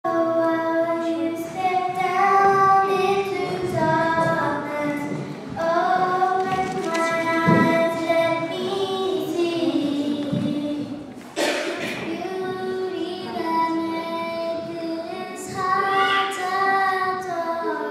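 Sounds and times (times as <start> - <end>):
girls singing a hymn: 0.1 - 17.9.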